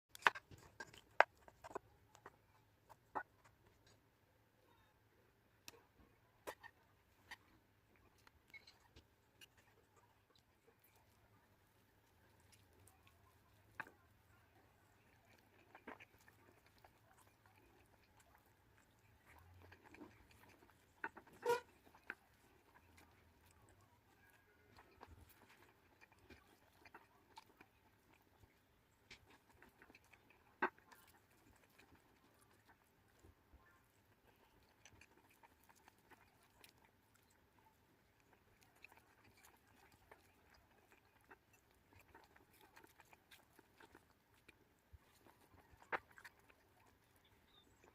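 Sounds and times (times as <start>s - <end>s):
chewing mouth sounds: 0.1s - 4.1s, 5.6s - 47.9s.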